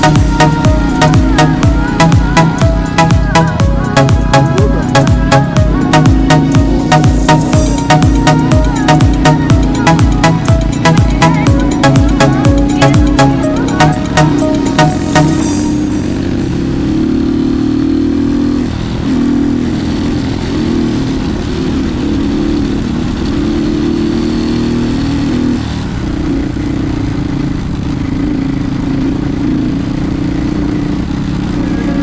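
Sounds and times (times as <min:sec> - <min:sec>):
motorcycle engine droning: 0:00.0 - 0:32.0.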